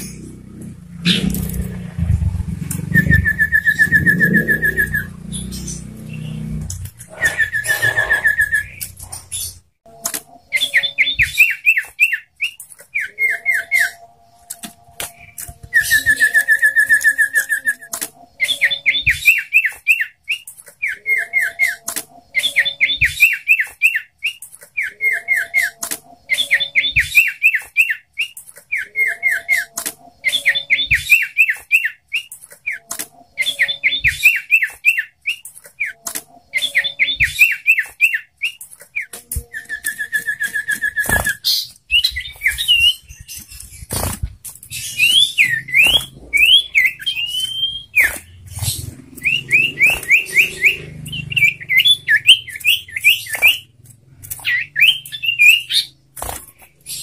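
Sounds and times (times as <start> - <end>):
songbird singing: 0.0 - 44.1, 44.7 - 57.0.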